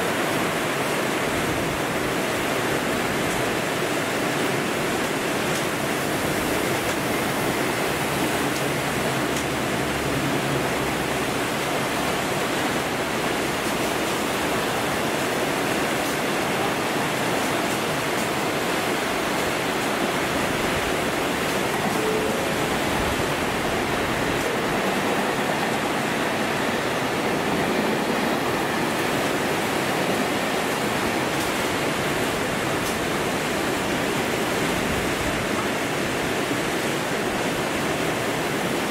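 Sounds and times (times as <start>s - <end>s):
heavy rain rushing: 0.0s - 38.9s.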